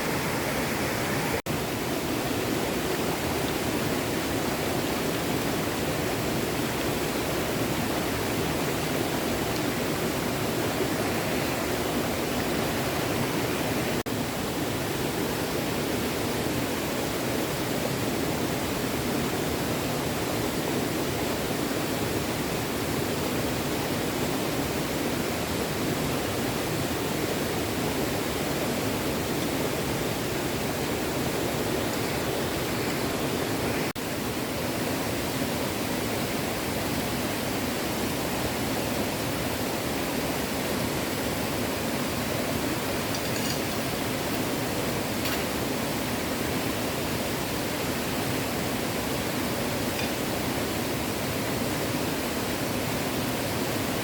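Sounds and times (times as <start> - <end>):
small stream flowing: 0.0 - 54.0.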